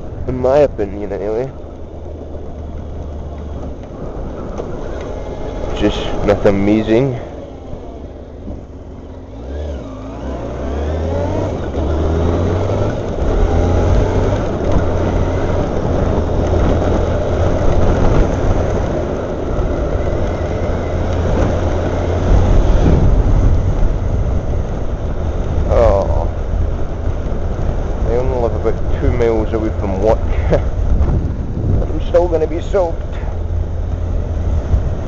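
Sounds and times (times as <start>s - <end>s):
rush of road noise: 0.0s - 35.0s
motorcycle engine accelerating: 1.1s - 35.0s.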